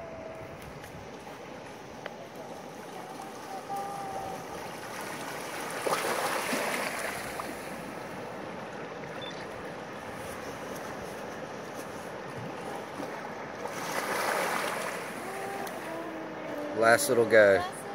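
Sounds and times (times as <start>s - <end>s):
small waves washing on sand: 0.0s - 17.9s.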